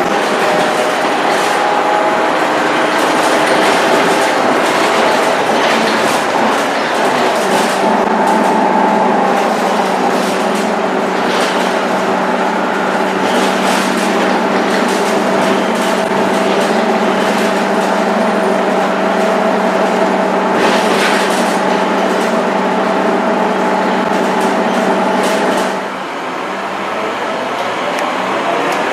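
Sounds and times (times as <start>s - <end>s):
bus drivetrain running: 0.0s - 28.9s.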